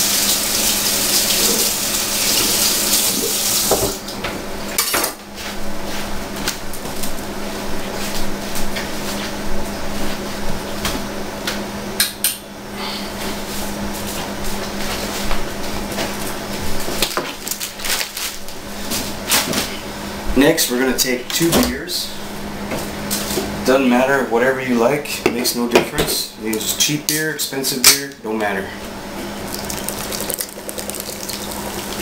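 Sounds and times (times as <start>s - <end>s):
steady low hum: 4.1s - 32.0s.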